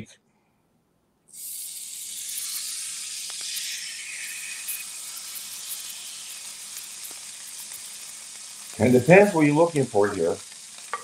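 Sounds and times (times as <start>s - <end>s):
faint oil spatters: 1.3s - 11.0s
steak sizzling in a skillet: 1.3s - 11.0s.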